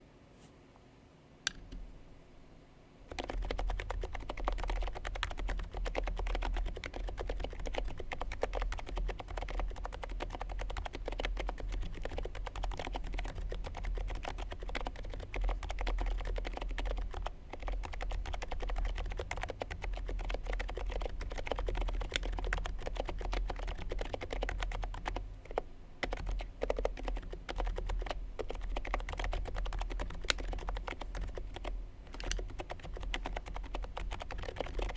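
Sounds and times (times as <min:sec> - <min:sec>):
keyboard typing: 0:03.1 - 0:34.9.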